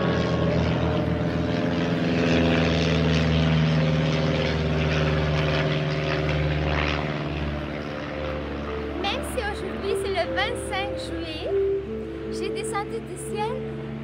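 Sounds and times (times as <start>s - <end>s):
propeller aircraft engine drone: 0.0s - 14.0s.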